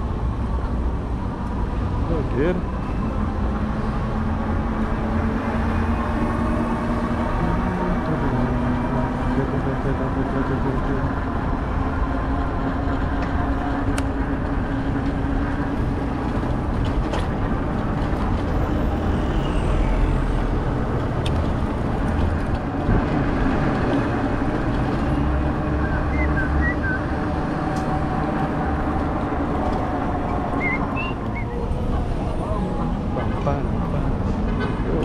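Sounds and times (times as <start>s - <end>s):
street traffic noise: 0.0s - 35.0s.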